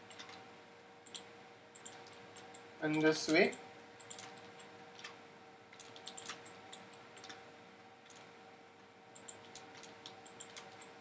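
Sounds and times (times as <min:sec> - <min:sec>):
computer mouse clicking: 0:00.0 - 0:00.4, 0:01.0 - 0:07.4, 0:08.0 - 0:08.3, 0:09.2 - 0:11.0
faint steady hum: 0:00.0 - 0:11.0.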